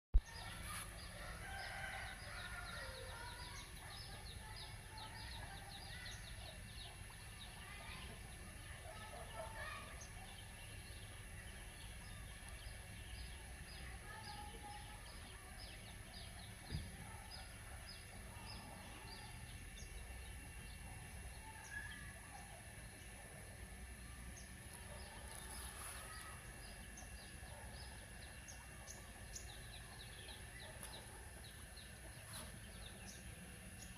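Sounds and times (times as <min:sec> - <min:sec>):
birds chirping: 0:00.2 - 0:33.9.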